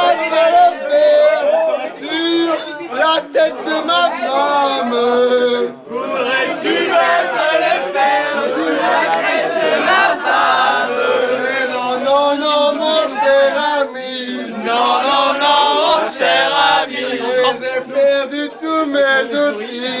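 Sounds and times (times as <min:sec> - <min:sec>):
group singing without instruments: 0:00.0 - 0:20.0.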